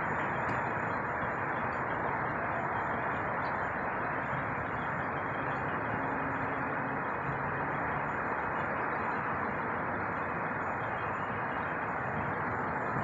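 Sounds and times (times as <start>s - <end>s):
jet engines rushing in flight: 0.0s - 13.0s.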